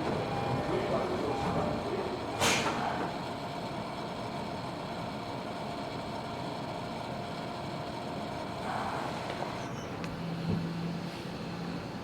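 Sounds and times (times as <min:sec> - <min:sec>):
subway train running rumble: 0:00.0 - 0:12.0.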